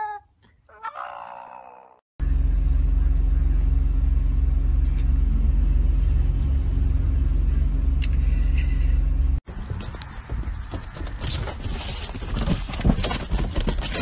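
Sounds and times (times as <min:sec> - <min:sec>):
engine and road rumble: 0:02.2 - 0:14.0.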